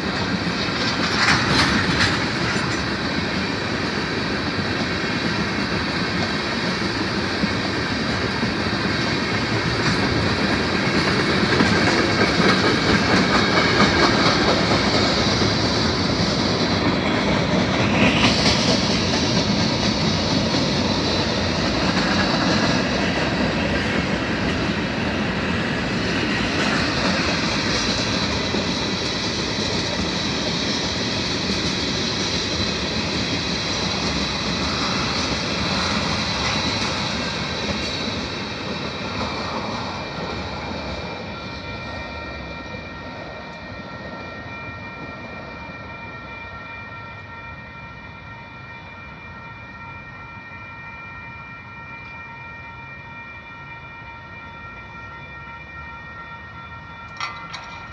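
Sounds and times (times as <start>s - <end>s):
crossing warning bells ringing: 0.0s - 57.9s
train passing on rails: 0.0s - 57.9s.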